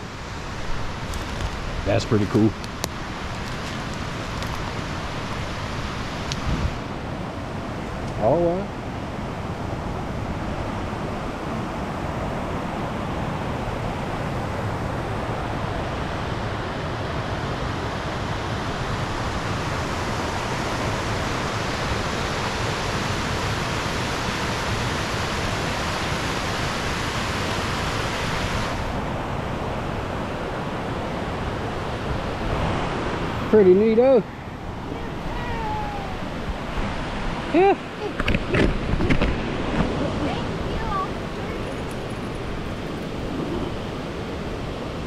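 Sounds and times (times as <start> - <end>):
waterfall roaring: 0.0 - 45.0.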